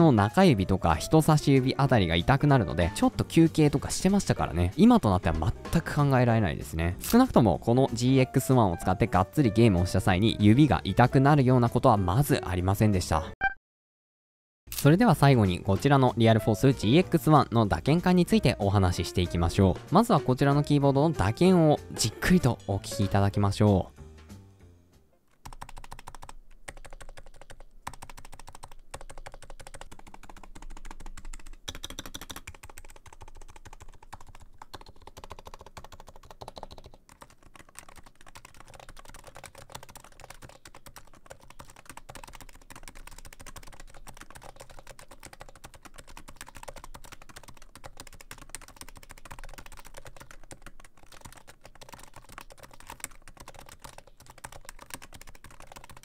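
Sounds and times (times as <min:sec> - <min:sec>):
fast typing on keyboard: 0:00.0 - 0:12.8, 0:15.2 - 0:23.3, 0:25.4 - 0:56.0.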